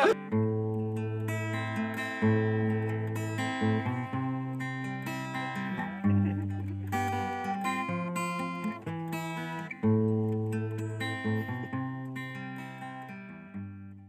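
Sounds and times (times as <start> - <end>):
acoustic guitar strumming chords: 0.0 - 13.9.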